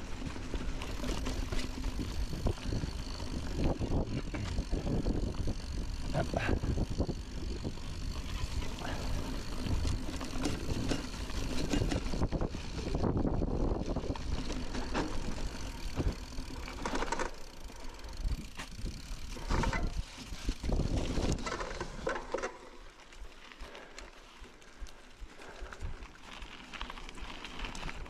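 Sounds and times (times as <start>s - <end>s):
bike chain and frame rattling: 0.0s - 28.0s
bike tyres rumbling off-road: 0.0s - 28.0s.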